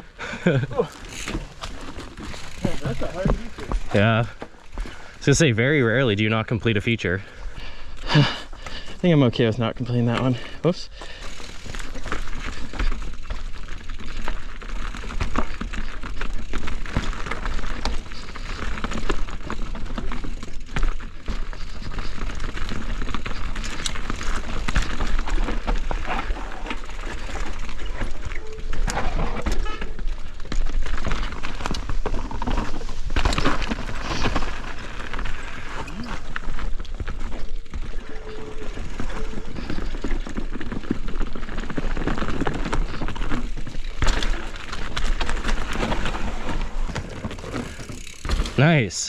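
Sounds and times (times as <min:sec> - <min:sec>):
bike rattling and clicking: 0:00.2 - 0:49.0
tyres crunching over dirt: 0:00.3 - 0:07.2, 0:08.1 - 0:49.0.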